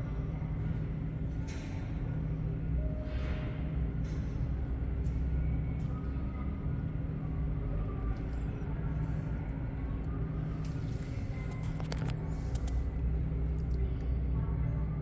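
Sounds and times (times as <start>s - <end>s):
airport machinery hum: 0.0s - 15.0s.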